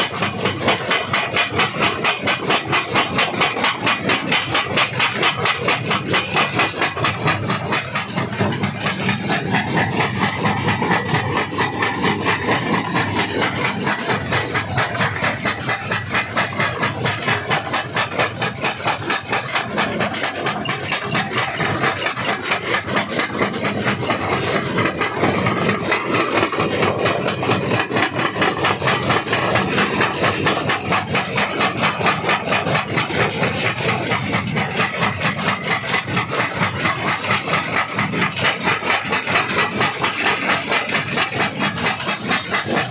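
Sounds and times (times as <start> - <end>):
stone crusher grinding rock: 0.0 - 42.9.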